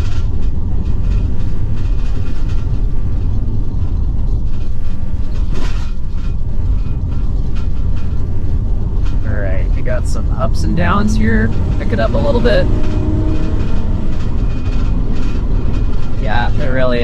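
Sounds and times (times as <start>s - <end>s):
clicks and rattles: 0.0s - 17.0s
road rumble inside a vehicle: 0.0s - 17.0s.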